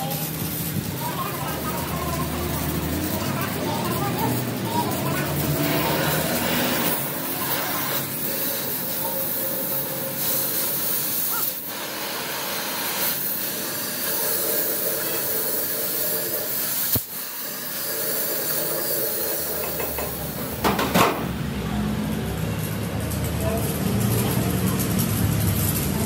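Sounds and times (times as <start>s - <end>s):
cutting torch hissing: 0.0s - 26.0s.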